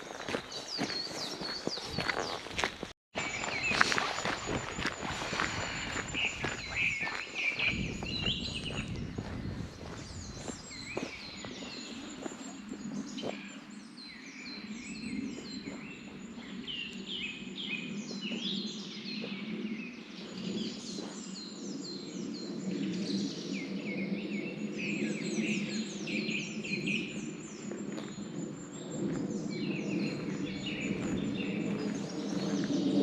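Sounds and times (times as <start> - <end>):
songbirds singing: 0.3 - 2.4, 3.2 - 33.0.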